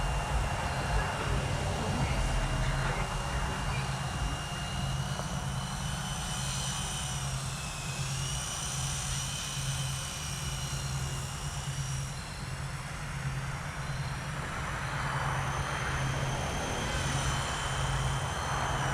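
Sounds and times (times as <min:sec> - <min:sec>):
rc helicopter rotor whine: 0:00.0 - 0:18.9.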